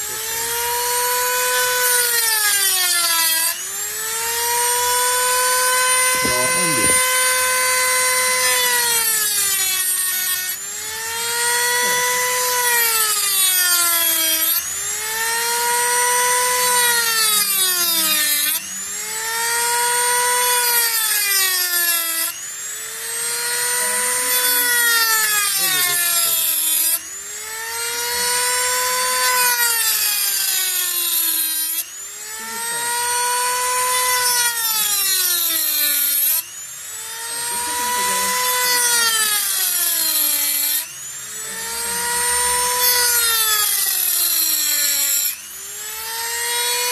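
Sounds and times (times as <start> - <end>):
rotary tool cutting metal: 0.0 - 46.9.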